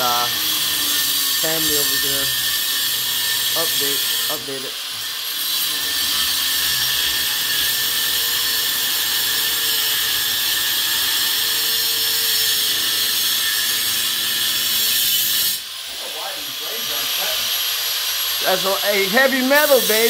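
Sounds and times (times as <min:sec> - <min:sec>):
angle grinder cutting steel: 0:00.0 - 0:20.0.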